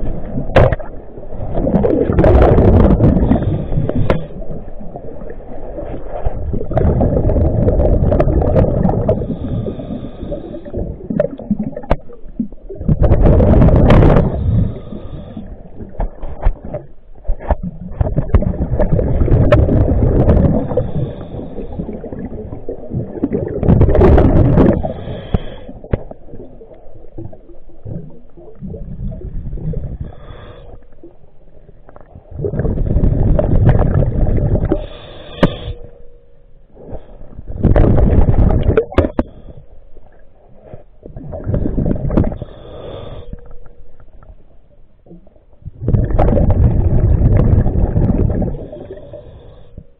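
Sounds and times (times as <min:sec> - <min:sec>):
exhaled bubbles rushing: 0:00.0 - 0:25.1, 0:25.7 - 0:30.2, 0:32.1 - 0:34.9, 0:37.5 - 0:39.5, 0:41.0 - 0:42.5, 0:45.0 - 0:49.4.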